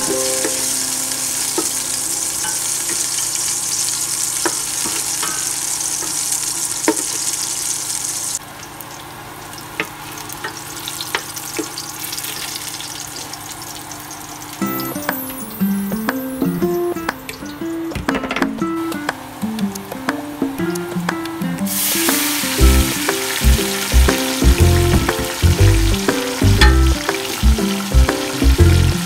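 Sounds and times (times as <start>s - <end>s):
onions sizzling in oil: 0.0s - 16.8s, 21.7s - 29.0s.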